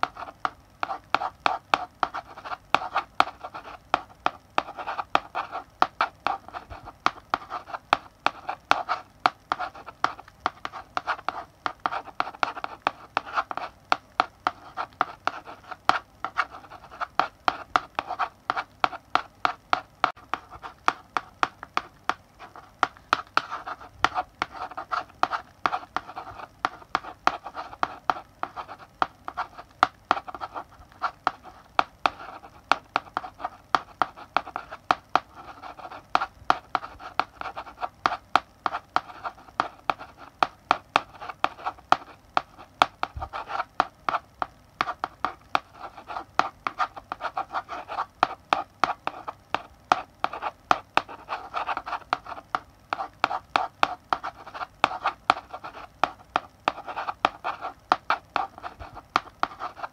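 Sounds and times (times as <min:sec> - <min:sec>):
chalk scratching on blackboard: 0:00.0 - 0:59.9
chalk tapping on board: 0:00.0 - 0:59.9.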